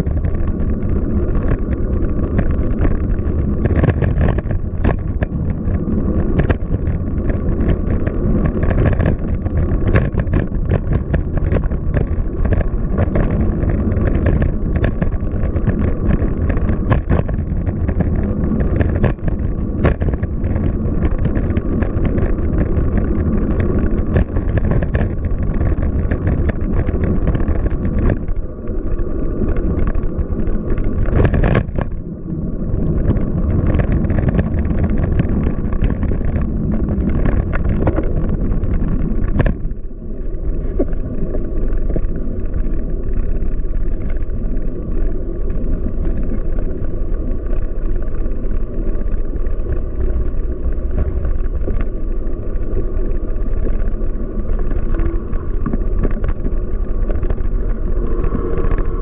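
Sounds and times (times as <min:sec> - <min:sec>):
city traffic rumble: 0:00.0 - 0:59.0
wind buffeting microphone: 0:00.0 - 0:59.0.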